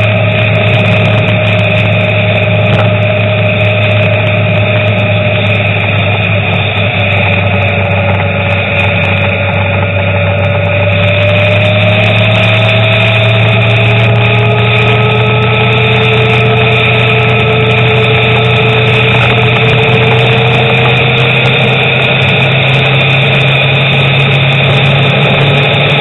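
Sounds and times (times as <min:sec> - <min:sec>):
car engine and road noise: 0:00.0 - 0:26.0
faint whine: 0:00.0 - 0:26.0.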